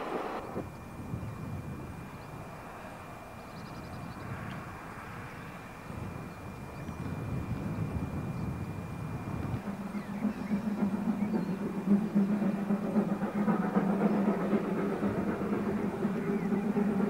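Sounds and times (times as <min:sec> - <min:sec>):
train engine drone: 0:00.0 - 0:17.0.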